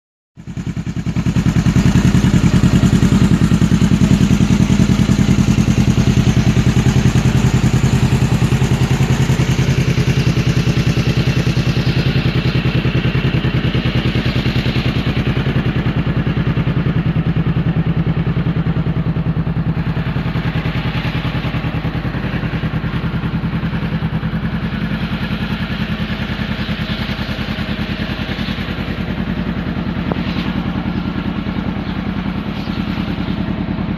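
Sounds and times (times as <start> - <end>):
engine idling: 0.4 - 33.9.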